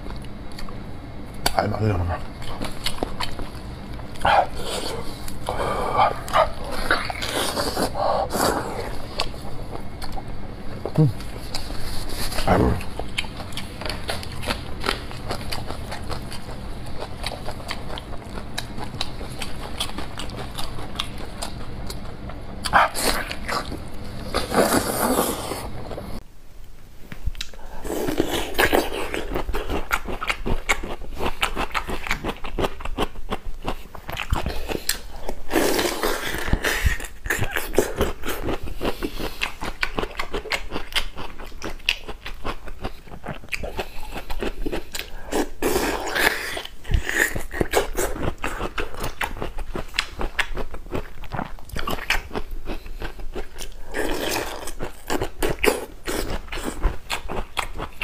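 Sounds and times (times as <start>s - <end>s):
wet chewing and smacking: 2.2s - 7.9s, 8.8s - 24.5s, 28.2s - 58.0s.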